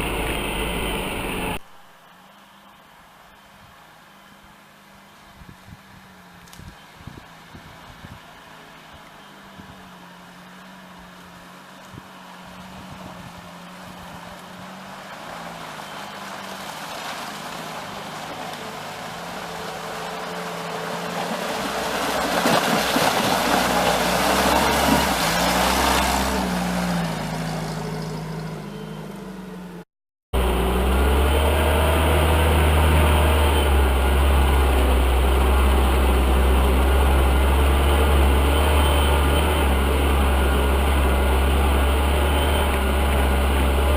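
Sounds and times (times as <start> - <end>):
off-road vehicle engine running: 0.0 - 1.7, 2.3 - 43.9.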